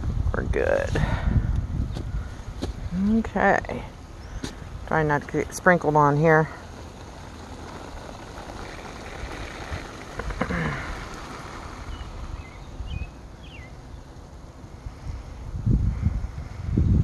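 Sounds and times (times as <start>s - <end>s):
garden sprinkler hissing: 0.0s - 17.0s.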